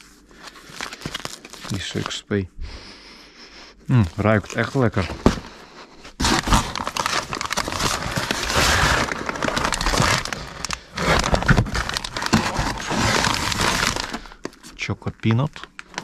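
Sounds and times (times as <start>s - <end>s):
plastic packaging crinkling: 0.0s - 2.2s, 3.9s - 5.4s, 6.2s - 16.0s.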